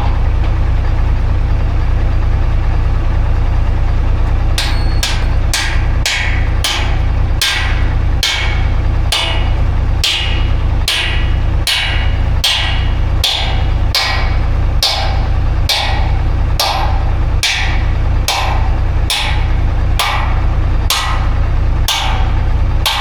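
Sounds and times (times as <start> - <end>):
steady low hum: 0.0 - 23.0
sharp metal strikes: 4.6 - 23.0.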